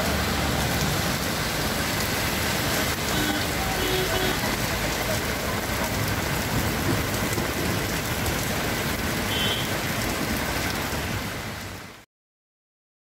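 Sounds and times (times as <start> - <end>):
heavy rain on road and cars: 0.0 - 12.1.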